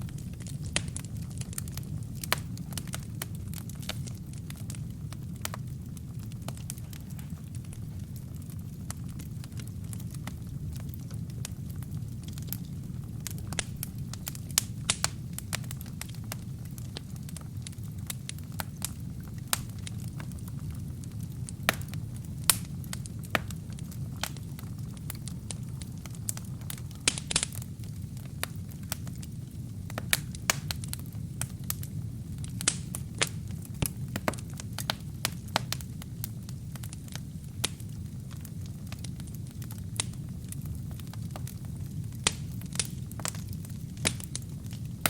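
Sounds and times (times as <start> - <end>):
fire crackling and popping: 0.0 - 45.0
fire rumbling: 0.0 - 45.0.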